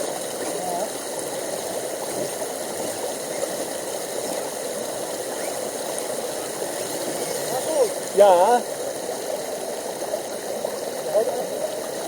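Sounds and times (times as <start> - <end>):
brook water rushing: 0.0 - 12.0.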